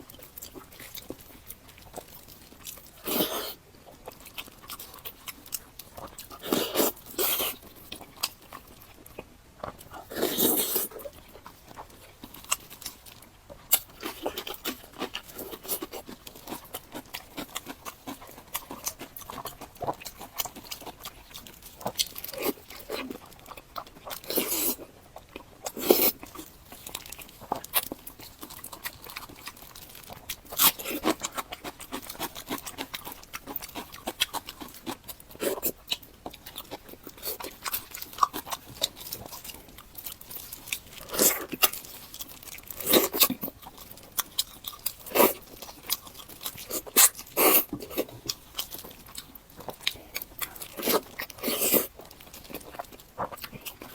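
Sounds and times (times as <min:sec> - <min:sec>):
crunching and chewing: 0:00.0 - 0:53.9.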